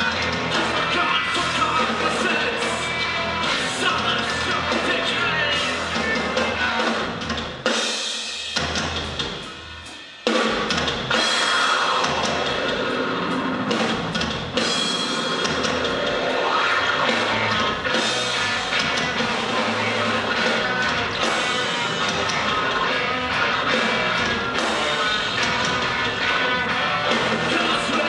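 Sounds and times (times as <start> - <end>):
distorted guitar: 0.0 - 8.0, 8.6 - 28.0
noise rock band playing loud: 0.0 - 28.0
pounding drums: 0.0 - 28.0.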